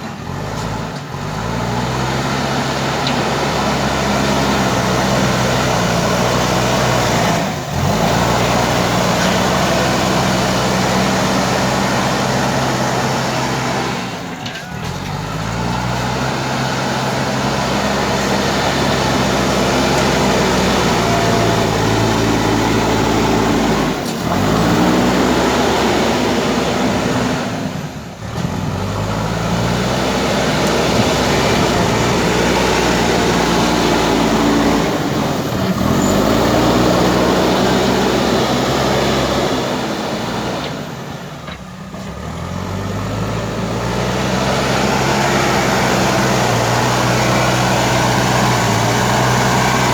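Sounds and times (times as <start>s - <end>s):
diesel engine revving under load: 0.0s - 49.9s.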